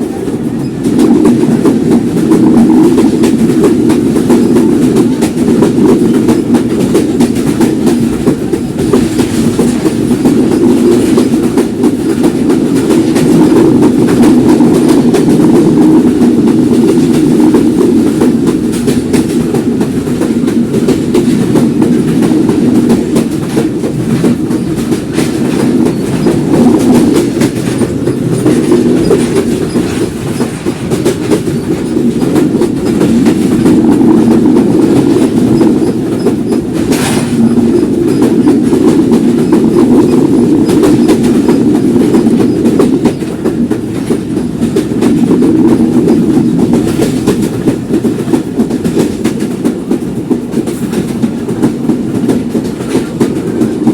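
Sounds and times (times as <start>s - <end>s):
clickety-clack over rail joints: 0.0s - 53.9s
train wheels rumbling on rails: 0.0s - 53.9s.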